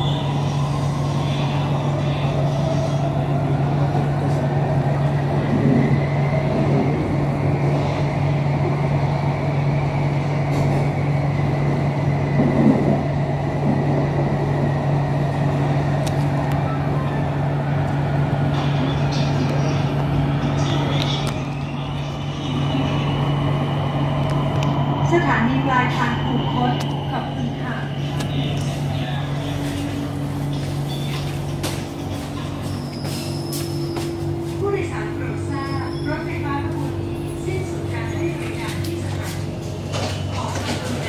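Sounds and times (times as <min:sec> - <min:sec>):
train carriage hum and rumble: 0:00.0 - 0:41.0.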